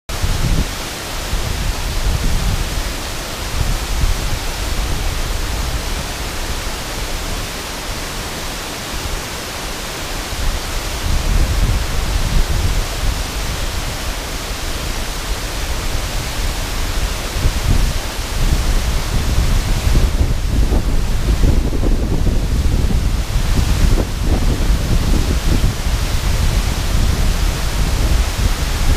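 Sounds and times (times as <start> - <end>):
waterfall rushing onto rocks: 0.1 - 28.9
wind gusts on microphone: 0.1 - 28.9.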